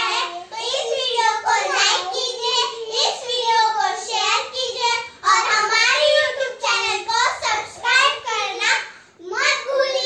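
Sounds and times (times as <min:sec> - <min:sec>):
girls singing unaccompanied: 0:00.0 - 0:08.6.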